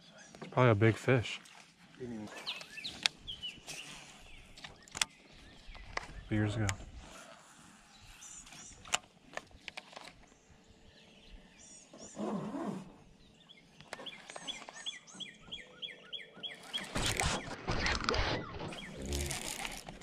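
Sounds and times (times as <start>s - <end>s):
birds chirping and calling: 2.0s - 20.0s.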